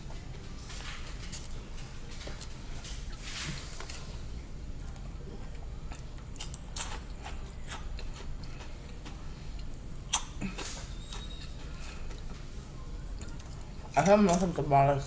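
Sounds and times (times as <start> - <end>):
chewing with clicks and crunches: 0.1 - 12.5, 13.1 - 14.6.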